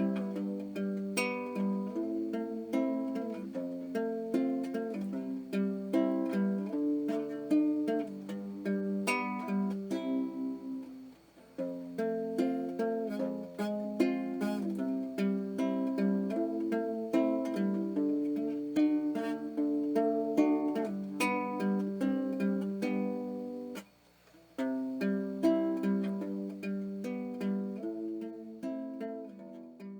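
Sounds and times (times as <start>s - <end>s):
plucked ukulele melody: 0.0s - 29.9s.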